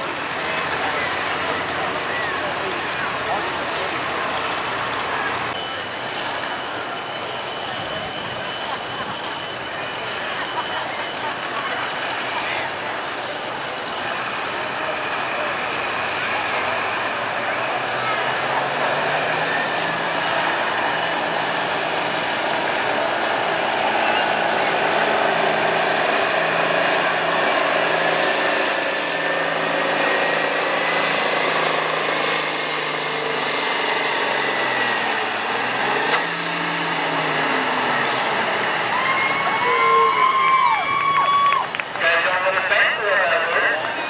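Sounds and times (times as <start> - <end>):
thin high turbo whine: 0.0 - 44.0
tractor diesel engine under load: 0.0 - 44.0.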